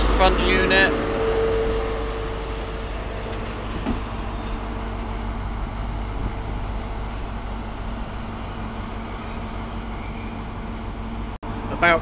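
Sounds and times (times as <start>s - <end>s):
diesel engine idling: 0.0s - 11.4s.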